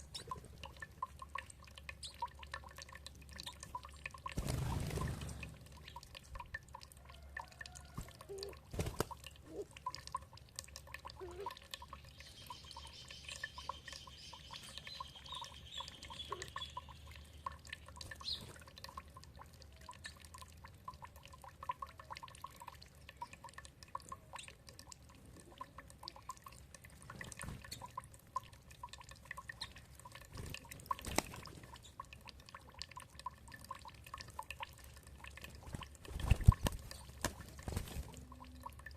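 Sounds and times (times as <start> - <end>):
water dripping and trickling: 0.0 - 38.9.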